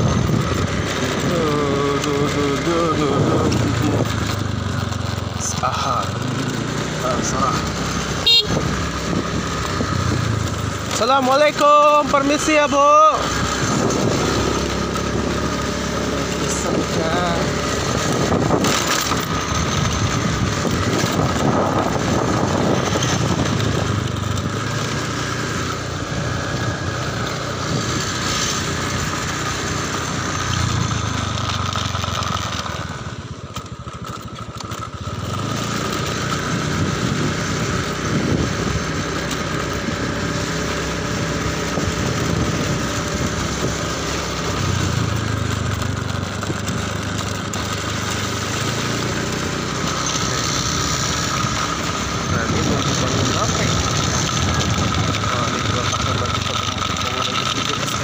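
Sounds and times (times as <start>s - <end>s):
small motorcycle engine running: 0.0s - 58.0s.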